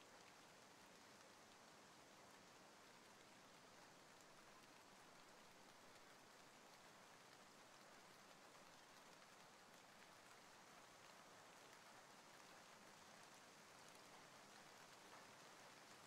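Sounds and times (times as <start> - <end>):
faint steady rain: 0.0 - 16.0.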